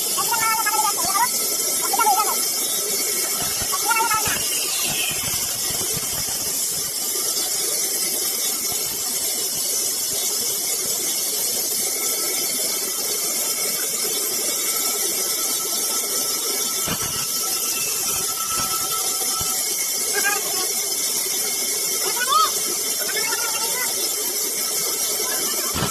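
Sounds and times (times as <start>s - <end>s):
constant hiss: 0.0s - 25.9s
woodworking machine whine: 0.0s - 25.9s.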